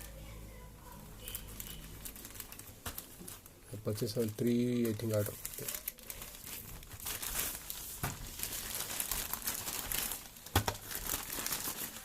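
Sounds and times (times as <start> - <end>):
packaging crinkling and rustling: 0.9 - 12.0.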